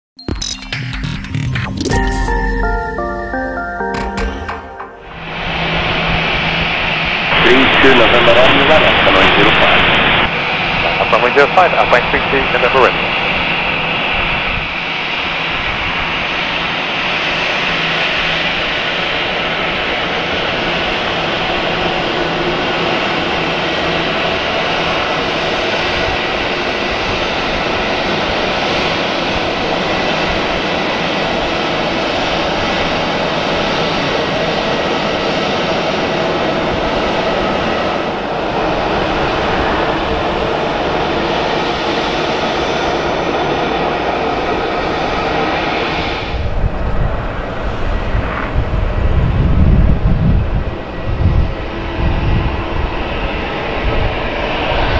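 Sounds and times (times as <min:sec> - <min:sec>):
jet engines whining: 0:00.3 - 0:54.9.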